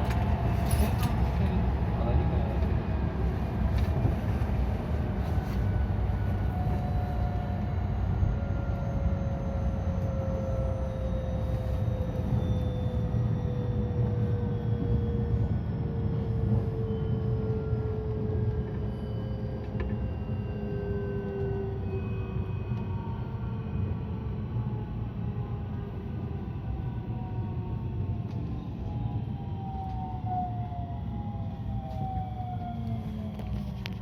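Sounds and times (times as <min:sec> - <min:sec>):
train low rumble: 0:00.0 - 0:34.0.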